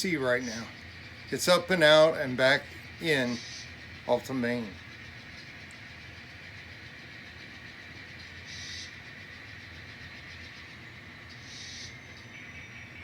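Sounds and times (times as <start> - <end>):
model locomotive humming: 0.0 - 13.0.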